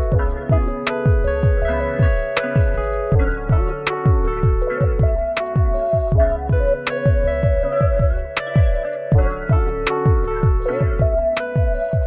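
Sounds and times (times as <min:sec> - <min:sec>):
held chords: 0:00.0 - 0:12.0
kick drum: 0:00.0 - 0:12.0
ticking hi-hats: 0:00.0 - 0:12.0.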